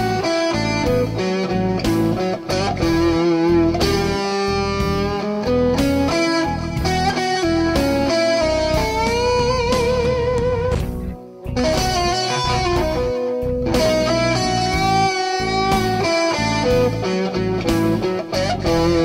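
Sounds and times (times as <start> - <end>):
electric guitar blues lick: 0.0 - 19.0.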